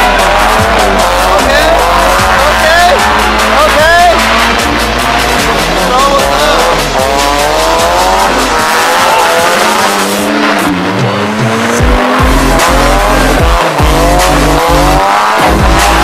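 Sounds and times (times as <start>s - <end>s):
bass-heavy music with kick drums: 0.0s - 16.0s
car engine revving hard: 0.0s - 16.0s.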